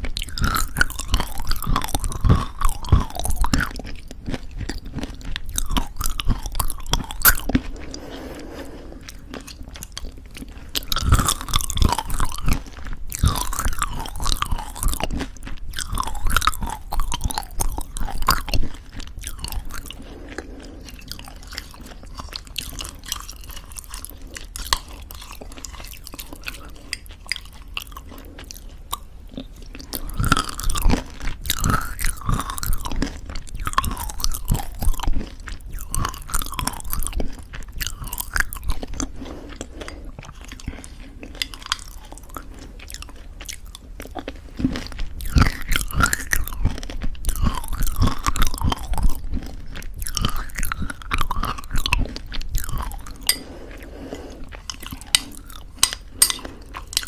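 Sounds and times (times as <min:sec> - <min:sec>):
chewing crunchy granola: 0:00.0 - 0:57.0.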